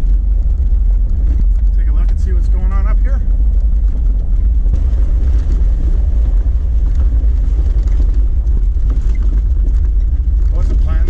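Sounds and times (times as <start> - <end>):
engine and drivetrain rumble: 0.0 - 11.0.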